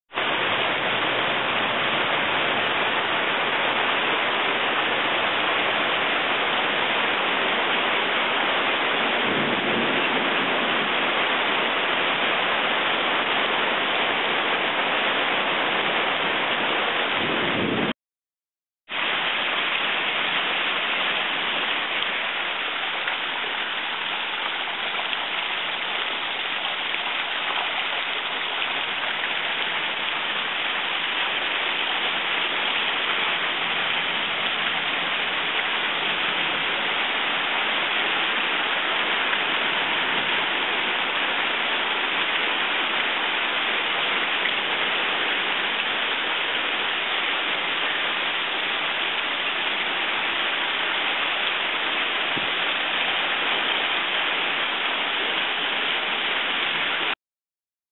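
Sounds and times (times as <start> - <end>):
heavy rain falling: 0.1 - 18.0, 18.9 - 57.2.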